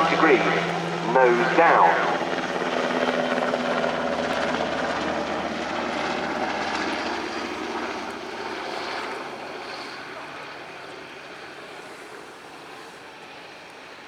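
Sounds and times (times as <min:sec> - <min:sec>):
helicopter rotors and engines: 0:00.0 - 0:14.0.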